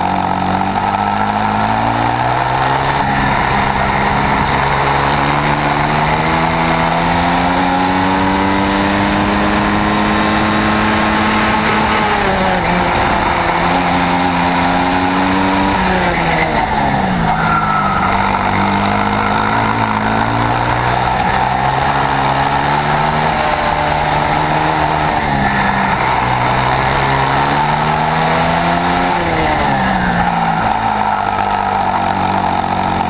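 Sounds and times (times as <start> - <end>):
two-stroke kart engine revving: 0.0 - 33.0.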